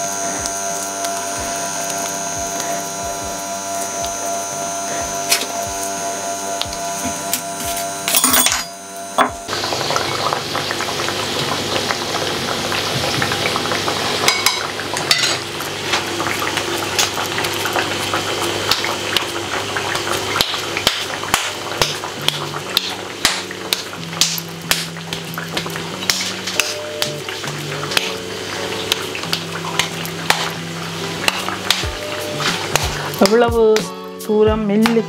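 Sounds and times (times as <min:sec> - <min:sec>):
fritters sizzling in hot oil: 0:00.0 - 0:08.1, 0:08.8 - 0:33.4
steady hum: 0:00.0 - 0:34.7.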